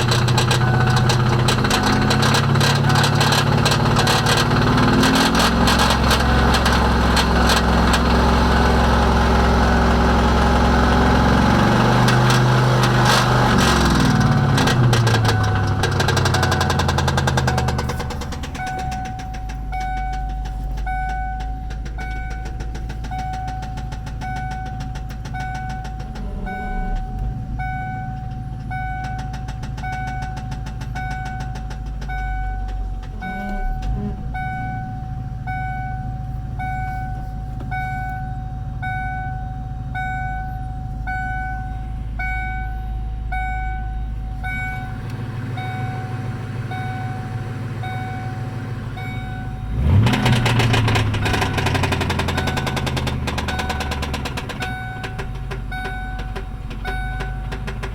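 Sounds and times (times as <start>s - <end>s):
car engine running: 0.0s - 57.9s
car warning chime dinging: 0.0s - 57.9s.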